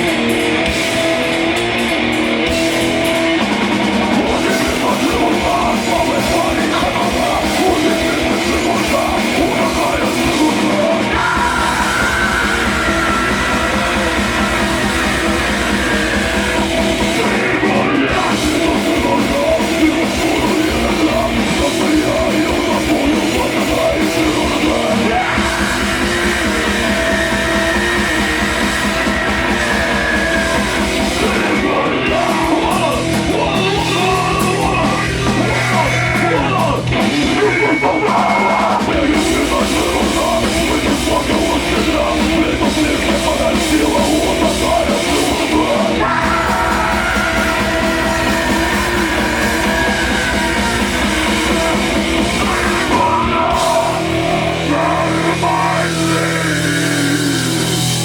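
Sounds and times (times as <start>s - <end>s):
electric guitars: 0.0s - 58.0s
fast dense drumming: 0.0s - 58.0s.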